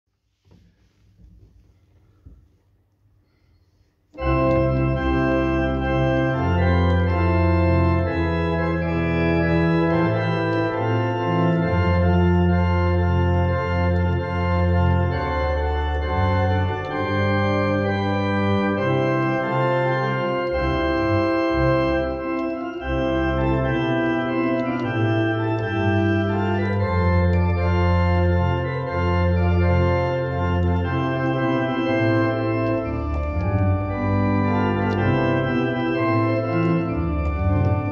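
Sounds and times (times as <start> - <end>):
church organ playing a hymn: 4.1 - 37.9.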